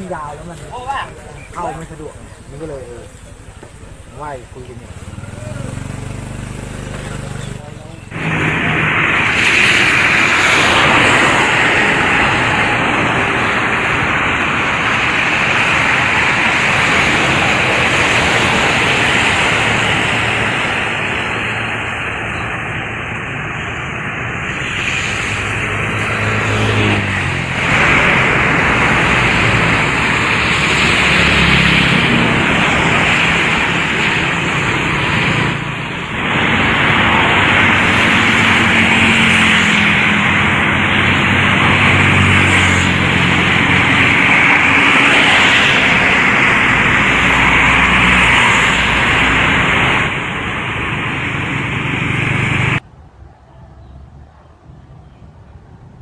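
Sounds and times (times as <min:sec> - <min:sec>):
tyres hissing through water: 0:00.0 - 0:21.8, 0:24.4 - 0:50.6
vehicle engines running: 0:00.0 - 0:56.0.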